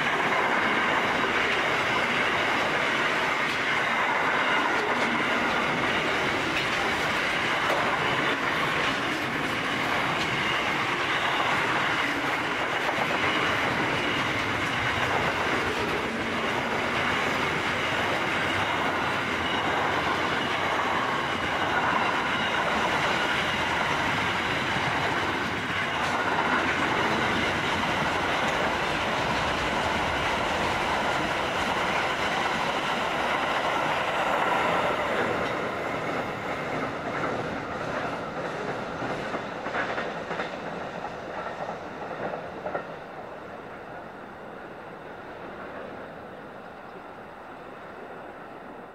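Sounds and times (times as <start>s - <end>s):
freight train wheels clattering: 0.0s - 43.3s.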